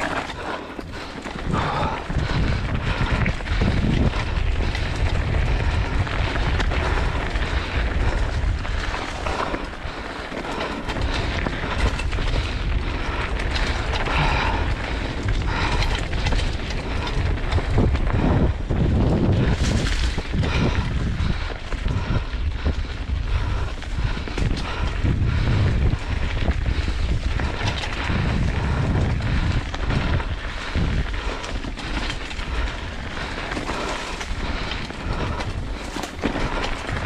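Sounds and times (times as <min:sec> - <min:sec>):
bike rattling over rocks: 0:00.0 - 0:37.0
bike tyres rumbling: 0:00.0 - 0:37.0
wind buffeting microphone: 0:00.0 - 0:37.0.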